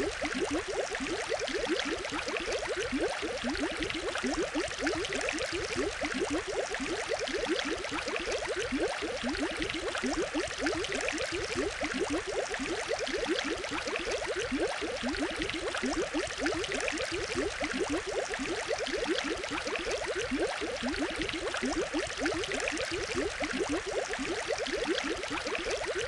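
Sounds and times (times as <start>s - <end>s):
aquarium water bubbling: 0.0s - 26.0s.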